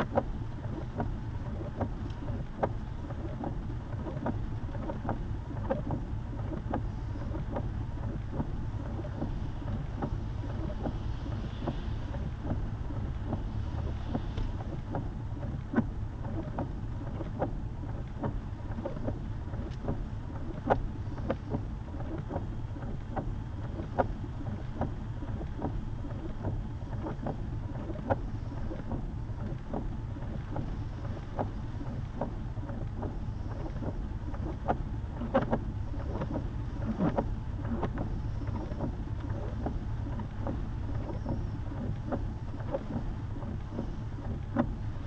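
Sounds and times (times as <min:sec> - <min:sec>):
road and engine rumble: 0:00.0 - 0:45.0.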